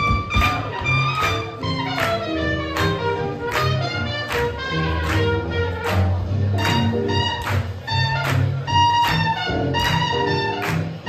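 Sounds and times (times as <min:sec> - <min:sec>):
swing jazz music: 0:00.0 - 0:11.0.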